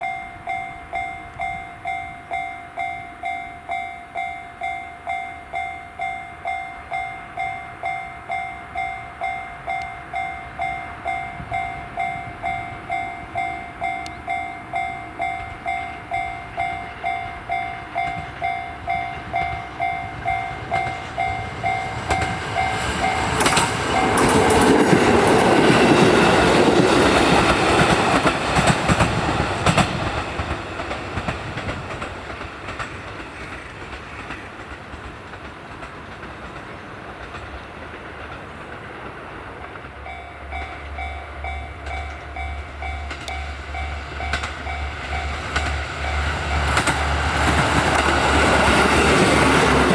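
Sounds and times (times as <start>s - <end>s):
level-crossing warning bell: 0.0s - 31.8s, 39.6s - 49.9s
diesel railcar passing: 0.0s - 49.9s
train wheels clacking: 0.0s - 49.9s.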